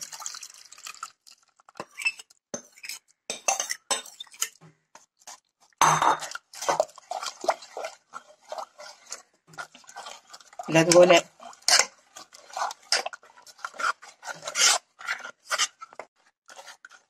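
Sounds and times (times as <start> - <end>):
metal spoon scraping a bowl: 1.8 - 4.6, 5.2 - 17.0.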